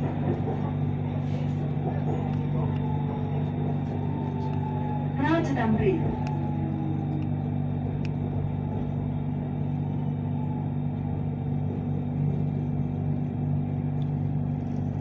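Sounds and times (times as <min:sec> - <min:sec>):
train hum: 0:00.0 - 0:15.0.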